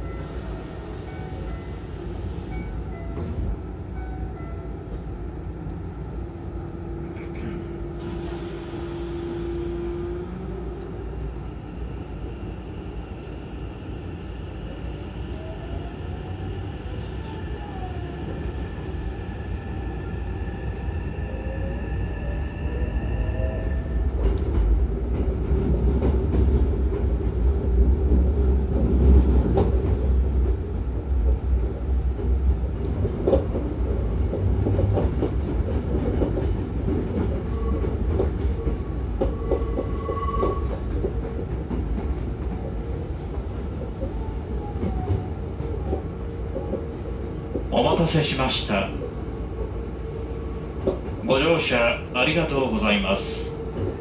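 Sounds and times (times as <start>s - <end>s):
low train rumble: 0.0s - 54.0s.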